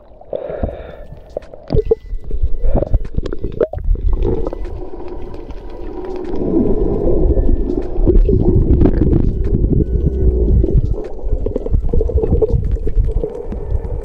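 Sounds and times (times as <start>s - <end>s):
muffled underwater rumble and sloshing: 0.0s - 14.0s
underwater clicks: 0.0s - 14.0s.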